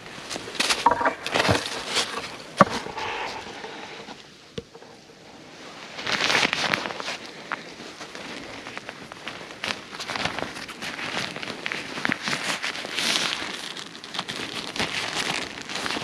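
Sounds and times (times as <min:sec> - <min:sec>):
tarp and cord rustling: 0:00.0 - 0:04.2, 0:04.8 - 0:16.0.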